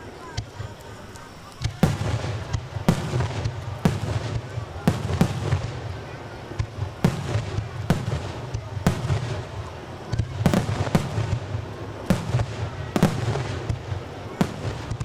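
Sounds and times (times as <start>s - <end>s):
fireworks bangs: 0.0s - 15.0s
low rumble of fireworks: 0.0s - 15.0s.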